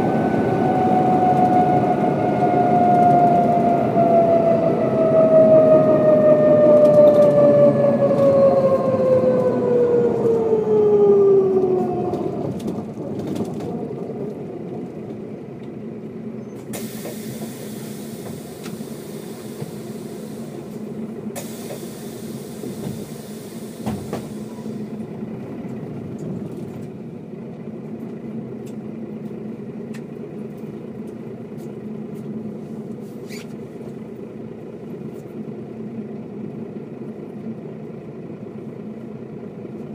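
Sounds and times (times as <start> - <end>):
bus drivetrain whine: 0.0 - 39.9
low diesel engine running: 0.0 - 39.9.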